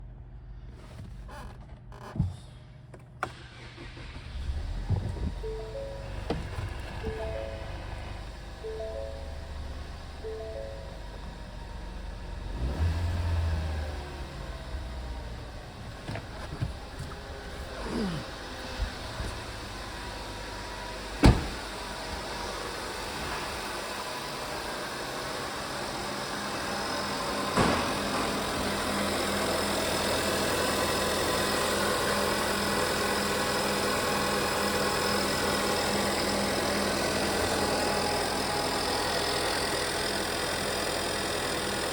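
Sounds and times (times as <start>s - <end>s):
car engine idling: 4.0s - 41.9s.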